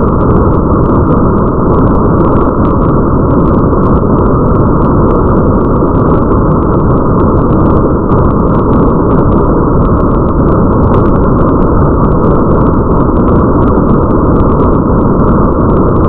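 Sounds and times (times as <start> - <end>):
muffled rush of rain: 0.0 - 16.0
rain drop ticks: 0.0 - 16.0.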